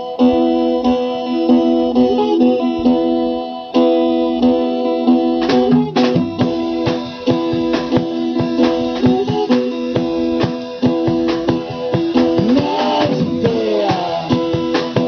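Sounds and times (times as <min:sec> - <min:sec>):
acoustic guitars strumming chords: 0:00.0 - 0:15.0.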